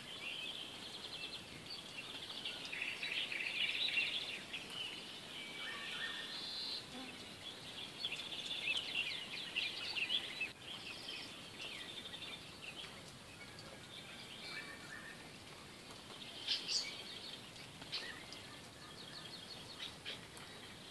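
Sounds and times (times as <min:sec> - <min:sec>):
background hiss: 0:00.0 - 0:20.9
small birds chirping: 0:00.0 - 0:20.9.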